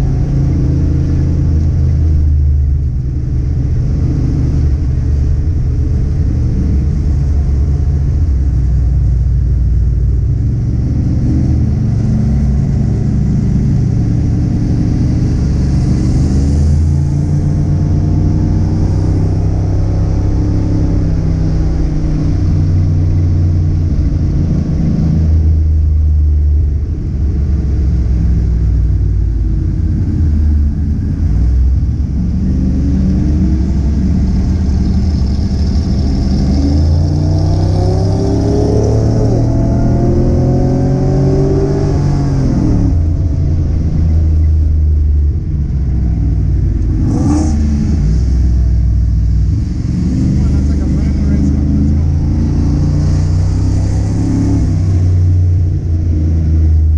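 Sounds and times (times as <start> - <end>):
car engine revving and shifting: 10.2 - 28.8, 29.5 - 56.9.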